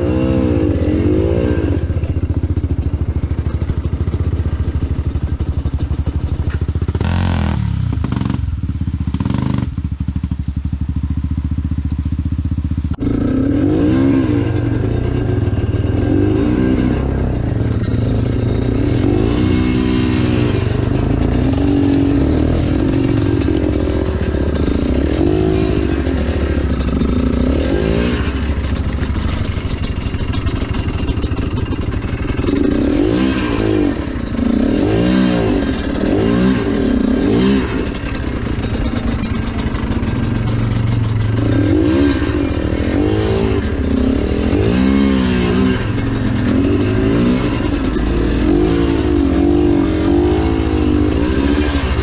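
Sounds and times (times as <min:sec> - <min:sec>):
dirt bike engine revving: 0:00.0 - 0:10.3, 0:11.0 - 0:52.0.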